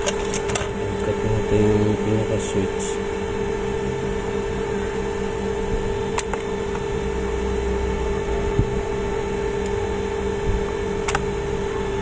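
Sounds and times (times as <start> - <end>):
small motor humming: 0.0 - 12.0.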